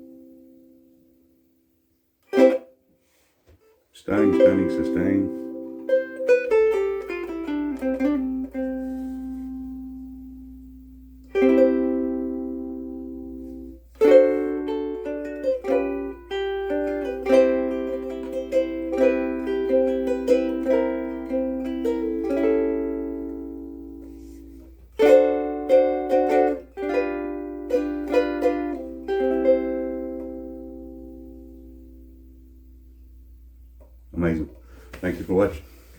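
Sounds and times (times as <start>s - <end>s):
ukulele chords and melody: 0.0s - 3.3s, 4.1s - 34.0s.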